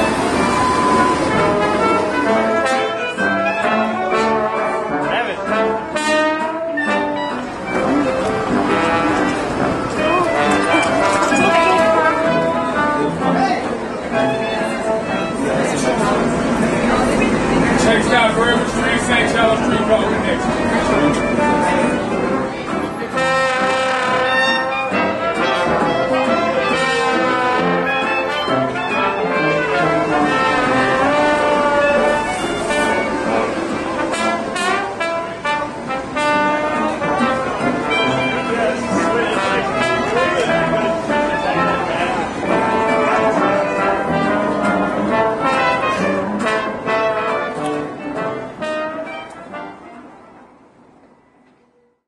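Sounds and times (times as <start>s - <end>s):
brass instruments playing melody: 0.0s - 50.7s.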